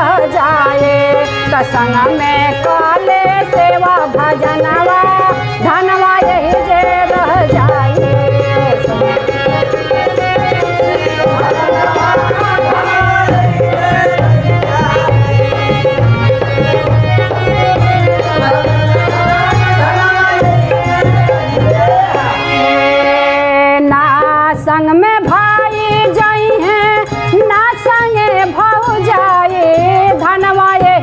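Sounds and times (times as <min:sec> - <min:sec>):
devotional folk music: 0:00.0 - 0:31.0
drums keeping rhythm: 0:00.0 - 0:31.0.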